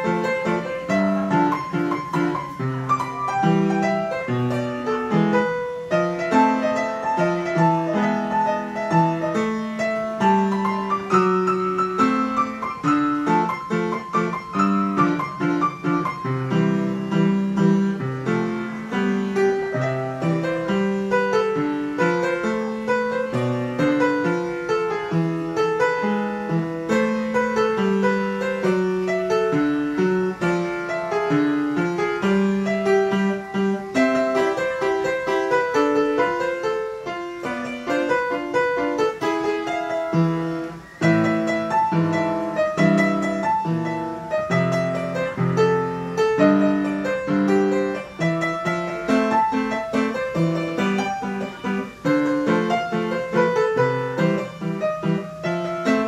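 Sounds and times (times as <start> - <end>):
upright piano playing: 0.0 - 56.0.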